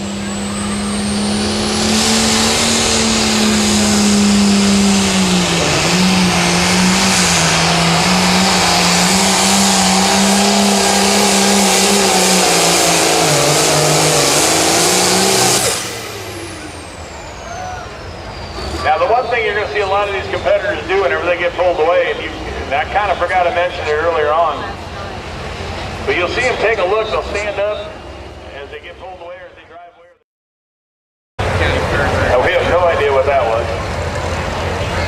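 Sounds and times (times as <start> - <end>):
diesel tractor engine at full throttle: 0.0 - 29.7, 31.4 - 35.0
high turbo whine: 0.0 - 29.7.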